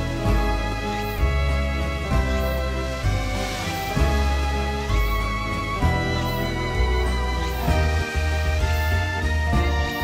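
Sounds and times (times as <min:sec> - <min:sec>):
slow instrumental music with sustained chords: 0:00.0 - 0:10.0.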